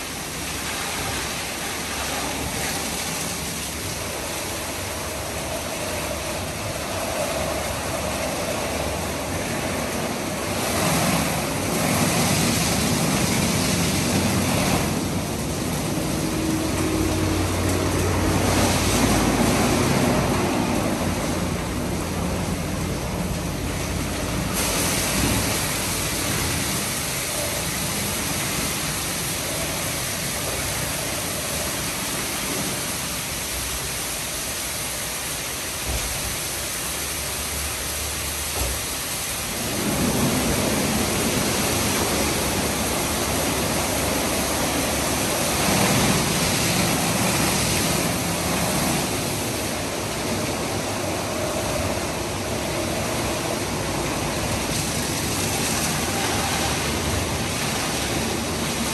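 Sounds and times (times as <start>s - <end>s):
car wash water and machinery: 0.0s - 58.9s.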